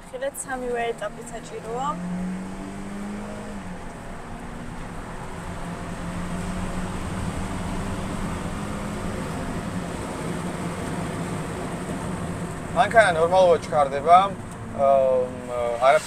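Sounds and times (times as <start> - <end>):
car engine accelerating: 0.0 - 16.0
road noise: 0.0 - 16.0.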